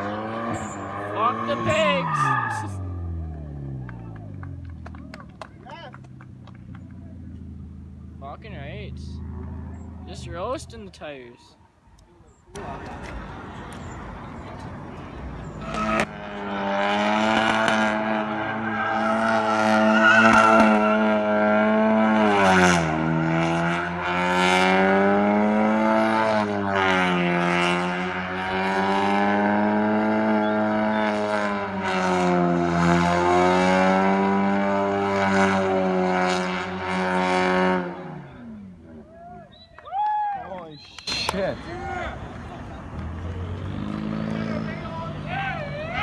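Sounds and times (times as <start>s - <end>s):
car engine revving during burnout: 0.0s - 10.6s, 12.6s - 39.0s, 41.1s - 46.0s.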